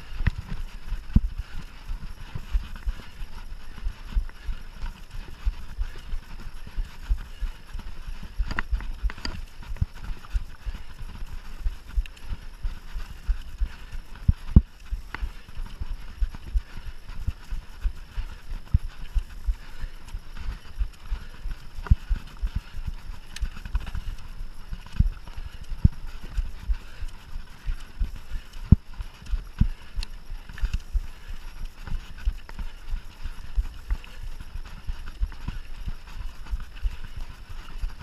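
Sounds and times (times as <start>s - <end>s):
mountain bike rumble on trail: 0.0s - 38.0s.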